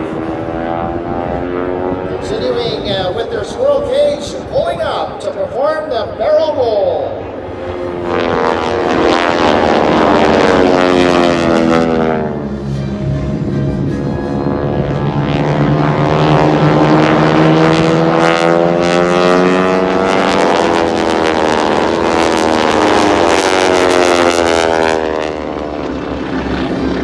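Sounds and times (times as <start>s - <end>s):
propeller planes droning past: 0.0s - 27.0s.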